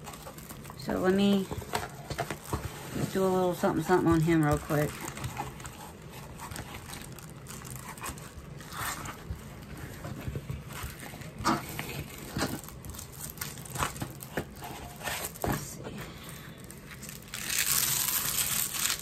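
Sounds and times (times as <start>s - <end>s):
paper and plastic film crinkling: 0.0s - 19.0s.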